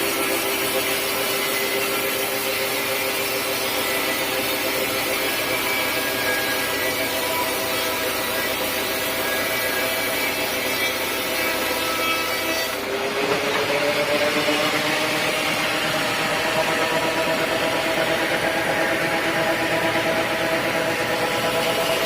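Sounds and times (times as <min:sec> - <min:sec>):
power saw cutting wood: 0:00.0 - 0:22.0.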